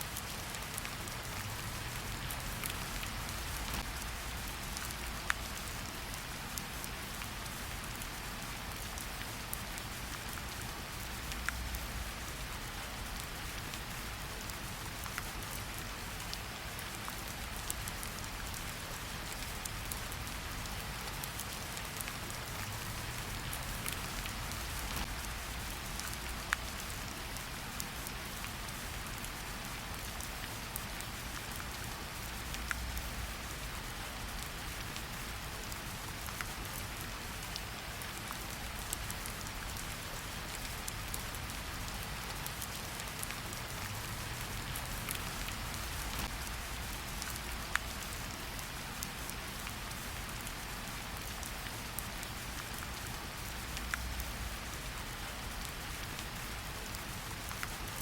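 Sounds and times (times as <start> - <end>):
rain falling in forest: 0.0 - 58.0
raindrops pattering close by: 0.0 - 58.0.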